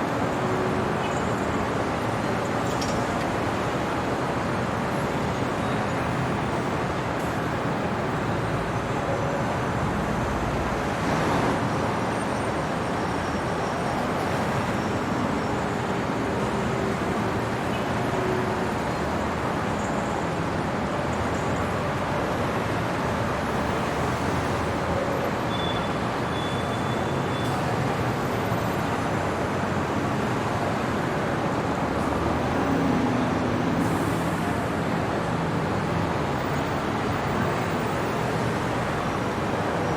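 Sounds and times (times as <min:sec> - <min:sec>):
city traffic hum: 0:00.0 - 0:39.9.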